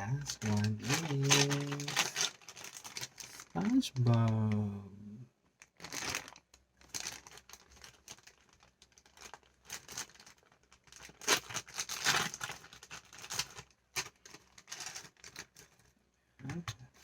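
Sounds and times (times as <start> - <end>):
plastic wrapper tearing and crinkling: 0.0 - 4.5, 5.6 - 15.9.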